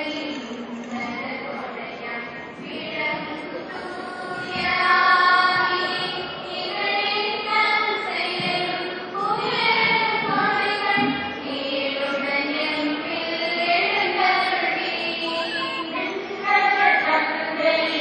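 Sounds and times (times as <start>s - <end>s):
choir singing a hymn: 2.5s - 18.0s.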